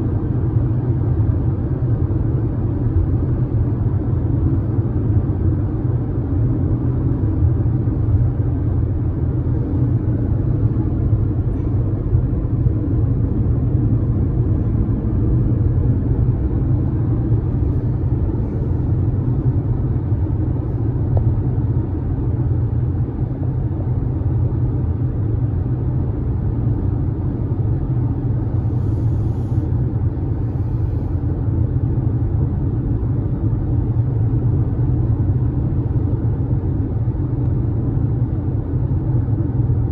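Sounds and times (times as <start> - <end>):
car road and tyre noise: 0.0 - 39.9.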